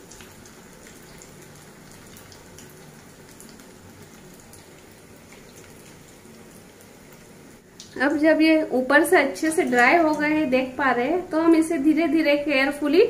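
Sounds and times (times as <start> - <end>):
bread frying in hot oil: 0.0 - 13.0.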